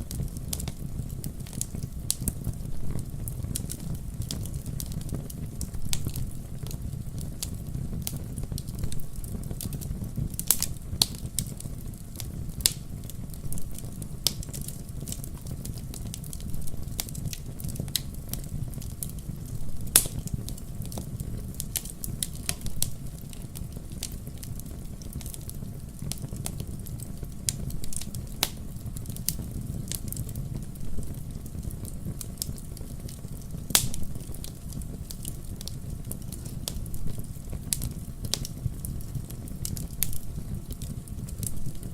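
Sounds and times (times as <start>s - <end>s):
burning wood crackling and popping: 0.0s - 41.9s
campfire flames rumbling: 0.0s - 41.9s.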